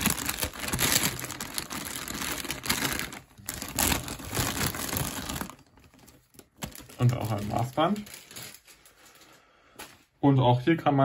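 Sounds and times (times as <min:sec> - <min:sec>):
plastic bags crinkling: 0:00.0 - 0:09.4.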